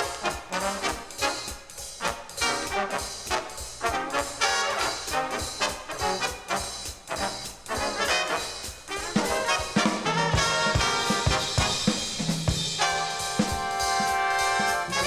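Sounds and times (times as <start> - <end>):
big band jazz on vinyl: 0.0 - 15.0.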